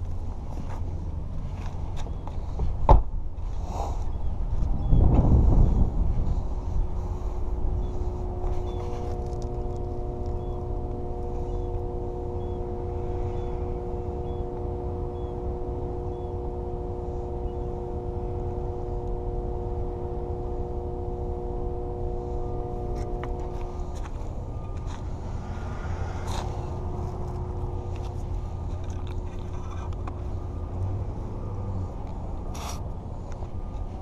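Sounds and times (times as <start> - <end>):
low rumble: 0.0 - 34.0
mechanical hum: 0.0 - 34.0.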